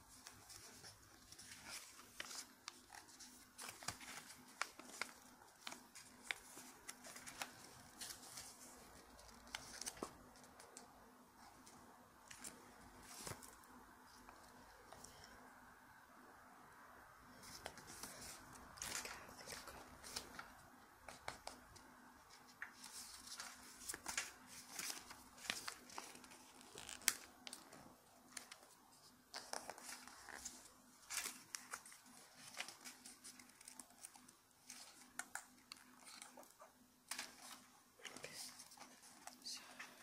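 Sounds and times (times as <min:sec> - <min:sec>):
paper crinkling and rustling: 0:00.1 - 0:15.3, 0:17.3 - 0:40.0.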